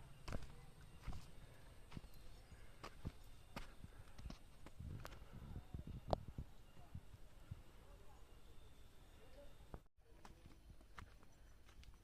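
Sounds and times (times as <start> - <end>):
footsteps on a trail: 0.0 - 7.8, 9.7 - 12.0.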